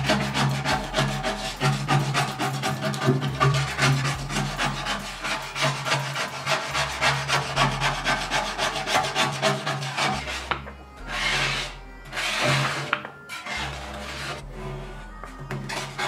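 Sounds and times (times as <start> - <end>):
abrasive tool scraping metal: 0.0 - 16.0.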